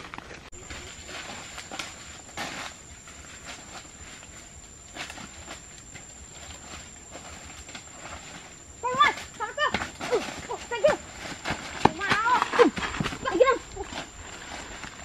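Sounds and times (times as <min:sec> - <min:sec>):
footsteps crunching dry leaves: 0:00.0 - 0:15.0
steady high whine: 0:00.0 - 0:15.0.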